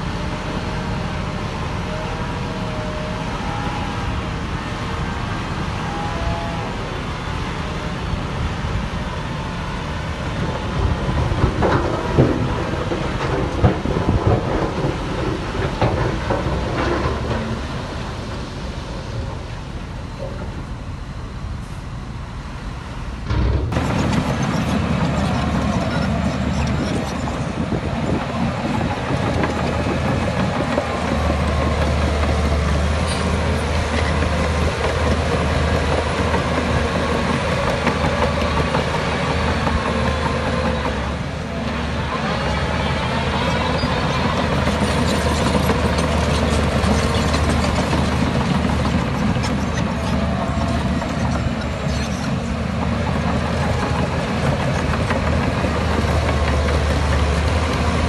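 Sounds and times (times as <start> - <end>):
heavy diesel engines droning: 0.0 - 58.0.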